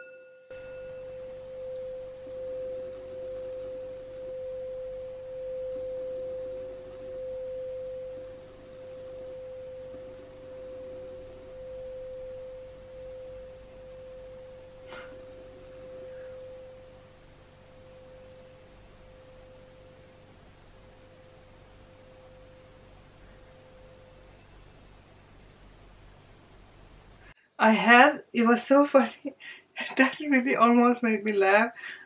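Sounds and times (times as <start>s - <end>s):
pure ringing tone: 0.0s - 27.4s.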